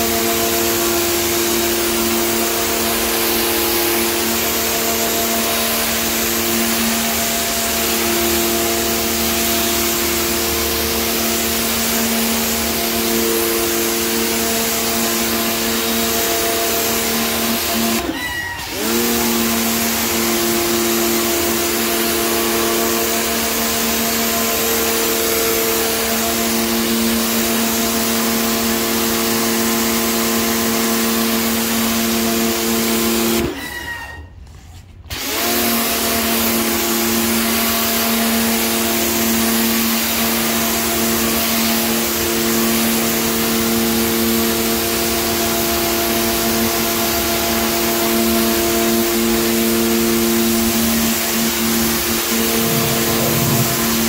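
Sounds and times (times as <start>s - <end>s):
spray jet hissing on tiles: 0.0s - 18.1s, 18.8s - 33.4s, 35.2s - 54.0s
pressure washer motor humming: 0.0s - 33.4s, 35.1s - 54.0s.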